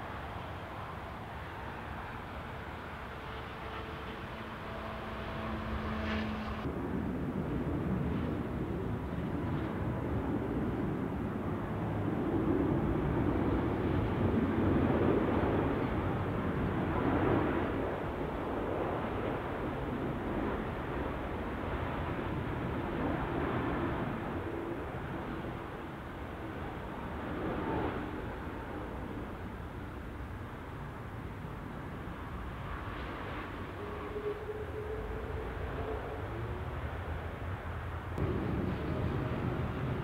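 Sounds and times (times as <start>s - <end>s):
jet airliner engine noise: 0.0s - 40.0s.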